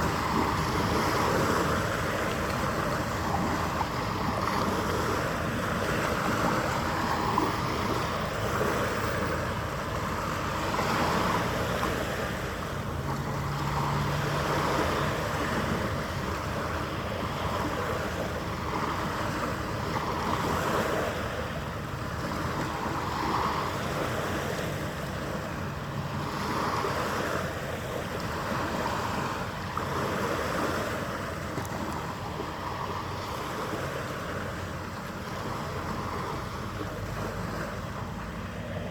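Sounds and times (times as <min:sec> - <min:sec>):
waves washing against shore: 0:00.0 - 0:38.9
wind: 0:00.0 - 0:38.9.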